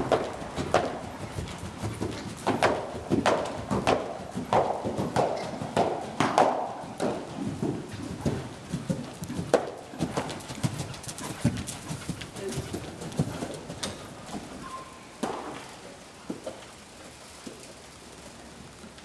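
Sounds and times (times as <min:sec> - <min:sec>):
horse hoofbeats on sand: 0:00.0 - 0:17.8.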